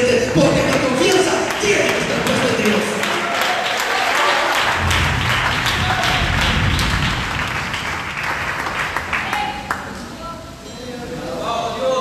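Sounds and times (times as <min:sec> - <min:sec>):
congregation applauding: 0:00.0 - 0:10.1.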